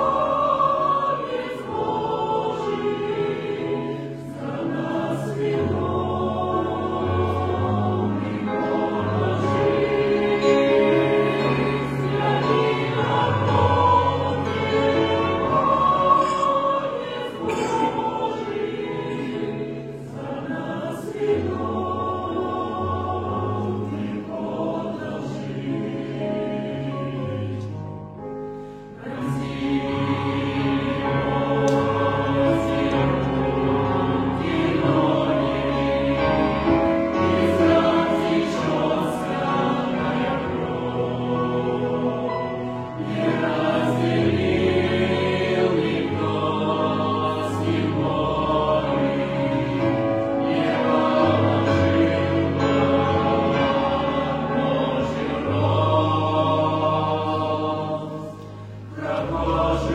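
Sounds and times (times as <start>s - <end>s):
choir singing held chords: 0.0s - 59.9s.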